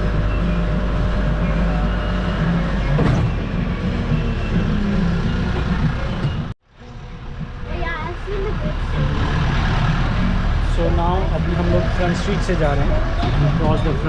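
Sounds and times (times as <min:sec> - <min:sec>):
road noise: 0:00.0 - 0:14.0
trolley train engine running: 0:00.0 - 0:14.0.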